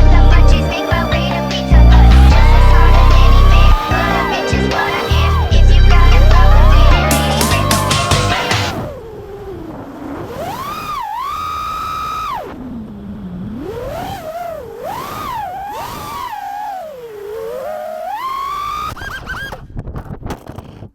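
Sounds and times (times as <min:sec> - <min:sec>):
drone motors whining: 0:00.0 - 0:19.6.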